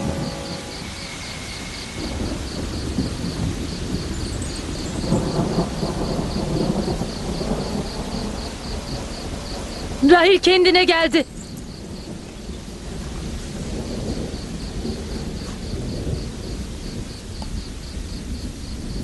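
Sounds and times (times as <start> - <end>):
crickets chirping: 0.0 - 19.0
low rolling thunder: 0.0 - 19.0
steady noisy hiss: 0.0 - 19.0.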